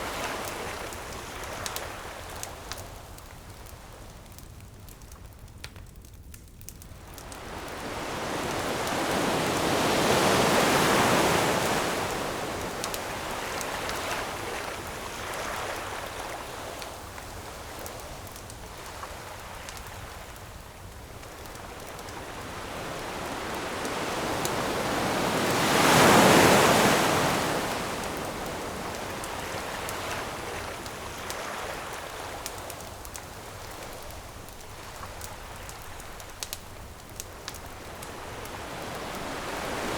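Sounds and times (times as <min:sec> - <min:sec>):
ocean waves washing ashore: 0:00.0 - 0:04.0, 0:06.9 - 0:39.9
campfire crackling: 0:00.0 - 0:39.9.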